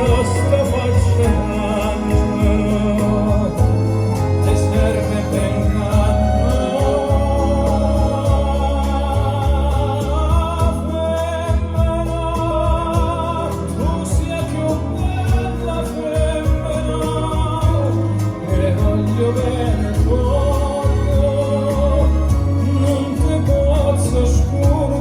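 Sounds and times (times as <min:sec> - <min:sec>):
instrumental accompaniment with bass: 0:00.0 - 0:25.0
male tenor singing with vibrato: 0:00.0 - 0:25.0.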